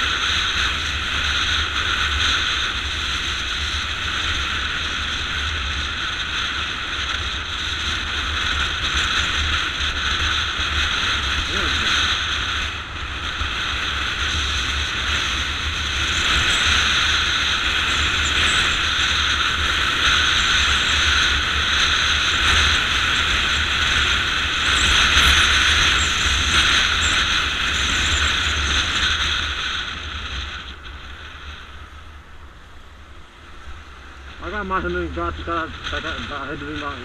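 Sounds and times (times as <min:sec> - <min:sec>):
motorcycle engine running: 0:00.0 - 0:37.0
wind rushing over camera: 0:00.0 - 0:37.0.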